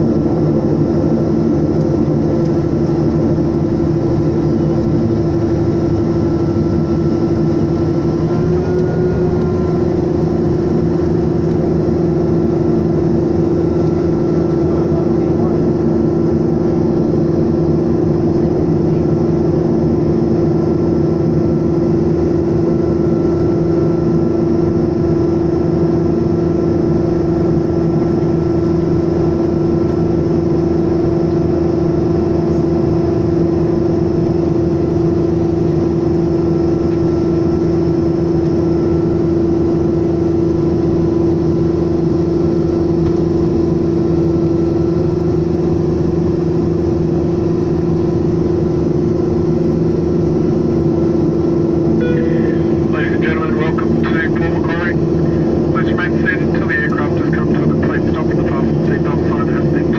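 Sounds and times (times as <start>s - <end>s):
propeller engine humming: 0.0s - 59.9s.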